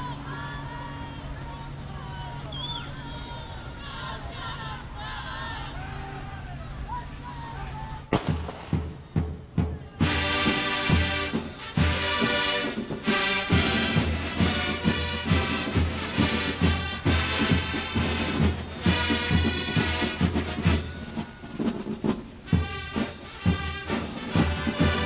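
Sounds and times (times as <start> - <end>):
brass bugles: 0.0 - 25.0
marching drum line: 0.0 - 25.0.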